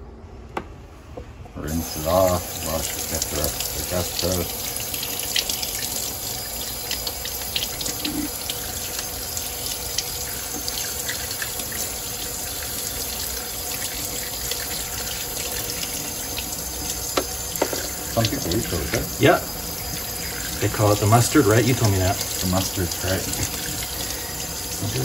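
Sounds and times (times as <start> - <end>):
faucet running water: 1.6 - 25.0.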